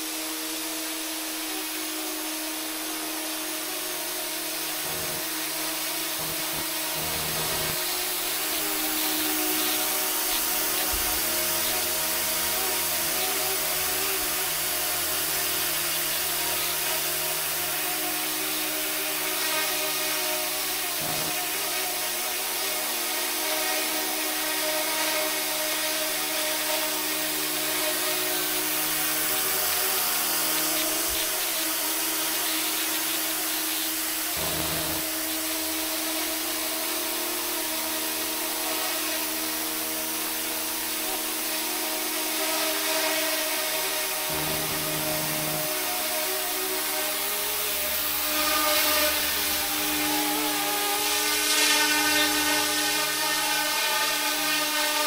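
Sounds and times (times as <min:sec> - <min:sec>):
hiss: 0:00.0 - 0:55.0
model helicopter rotor whine: 0:00.0 - 0:55.0.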